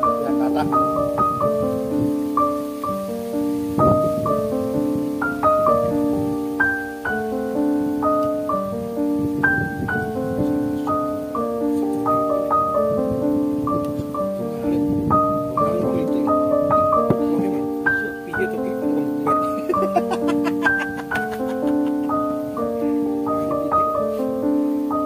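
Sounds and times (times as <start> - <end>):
keyboard playing held notes: 0.0 - 25.0.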